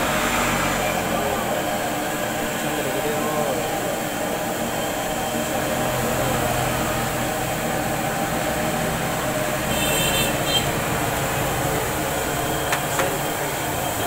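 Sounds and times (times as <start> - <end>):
hot oil sizzling in a wok: 0.0 - 14.0.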